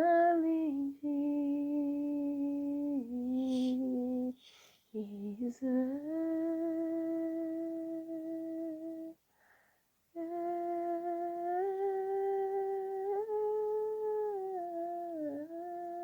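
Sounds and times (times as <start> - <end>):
woman humming slow melody: 0.0 - 4.4, 5.0 - 9.2, 10.2 - 16.0.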